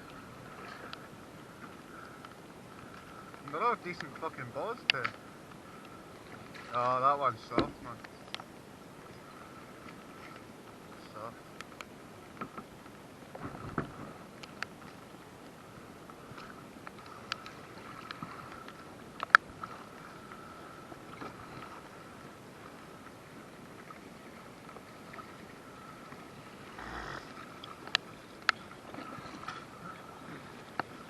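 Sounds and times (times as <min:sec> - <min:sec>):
river water noise: 0:00.0 - 0:31.0.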